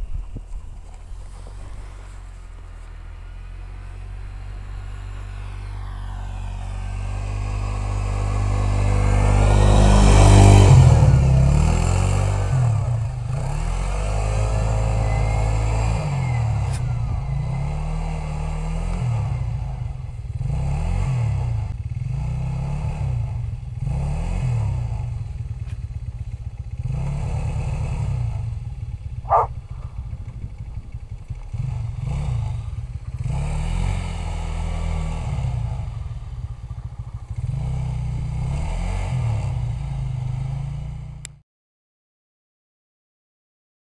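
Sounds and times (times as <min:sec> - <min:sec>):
atv engine revving: 0:00.0 - 0:41.4.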